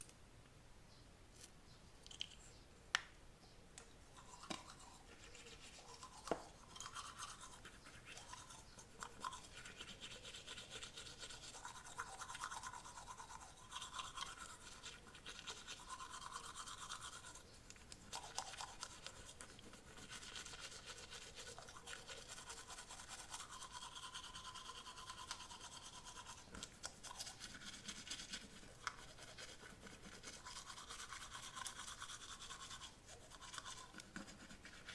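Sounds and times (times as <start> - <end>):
toothbrush scrubbing teeth: 4.1 - 34.9.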